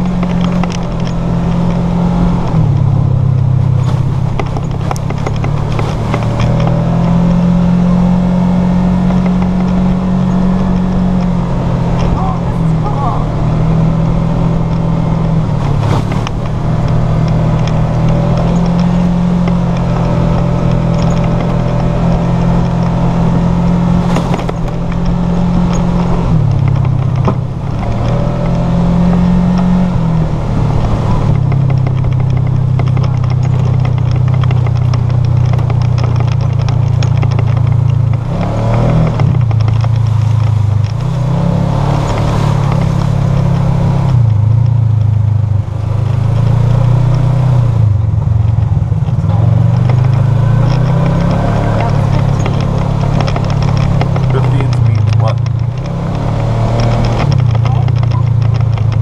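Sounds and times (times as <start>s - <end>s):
sharp knocks and rattles: 0.0s - 12.7s, 13.3s - 59.0s
utility vehicle engine running: 0.0s - 59.0s.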